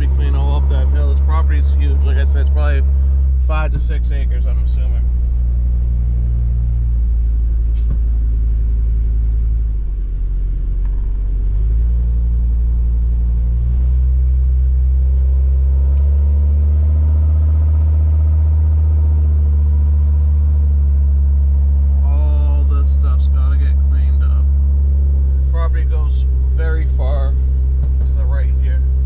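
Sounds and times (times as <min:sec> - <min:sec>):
truck engine low drone: 0:00.0 - 0:29.0.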